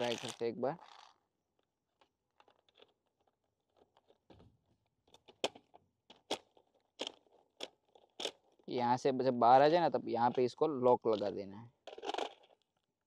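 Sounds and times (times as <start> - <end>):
plastic clicks and rattling: 0.0 - 8.7, 10.4 - 12.9.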